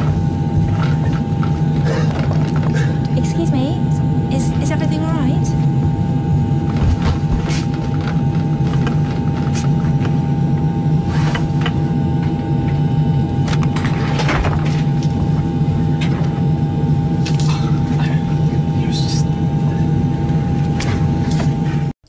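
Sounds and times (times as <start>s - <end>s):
airliner cabin drone: 0.0s - 21.9s.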